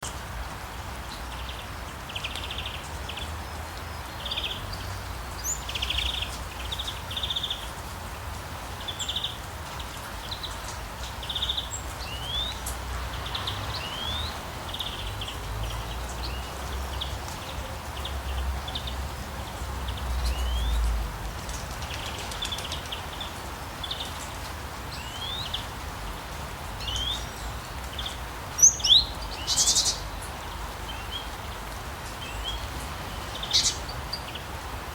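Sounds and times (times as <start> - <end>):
forest rain: 0.0 - 34.9.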